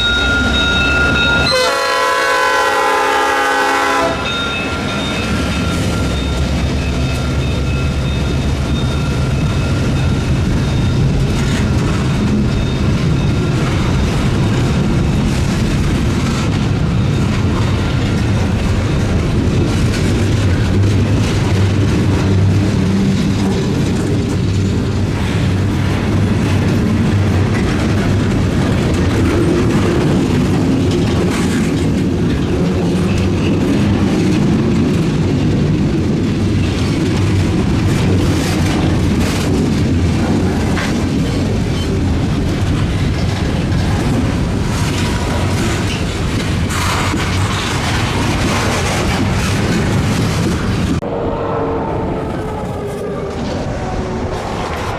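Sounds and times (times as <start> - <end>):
train wheels rumbling on rails: 0.0 - 54.9
wheels clacking over rail joints: 3.6 - 51.0.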